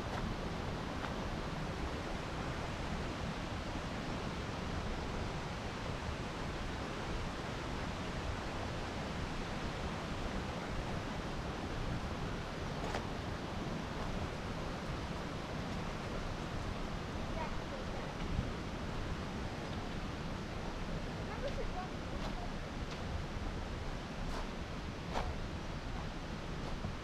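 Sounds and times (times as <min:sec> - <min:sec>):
rushing outdoor noise: 0:00.0 - 0:27.0.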